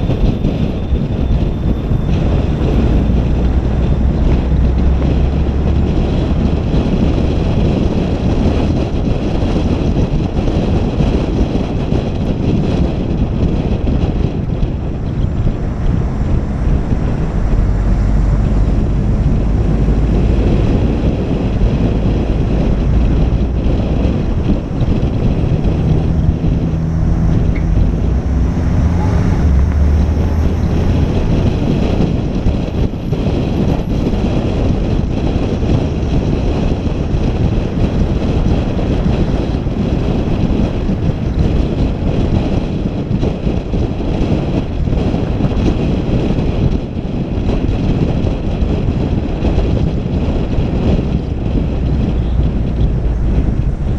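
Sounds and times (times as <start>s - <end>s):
road noise: 0.0s - 53.9s
vehicle engine hum: 0.0s - 53.9s
wind buffeting microphone: 0.0s - 53.9s.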